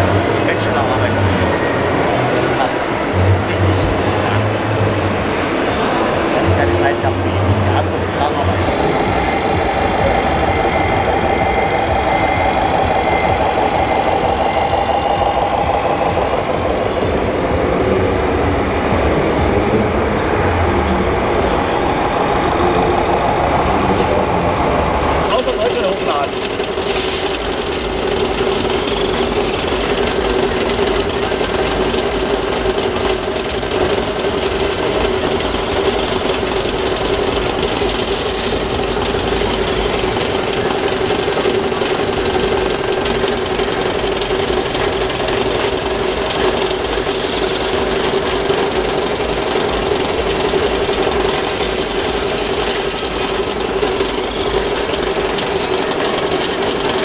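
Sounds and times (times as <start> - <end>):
hydraulic pump whine: 0.0 - 57.0.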